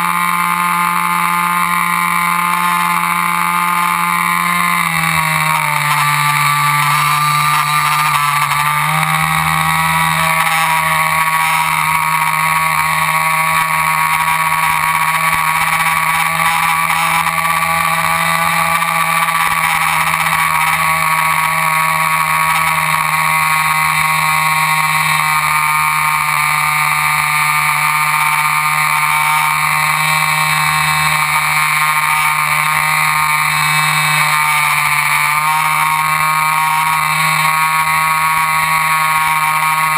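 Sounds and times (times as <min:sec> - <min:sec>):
model airplane motor and propeller: 0:00.0 - 0:39.9.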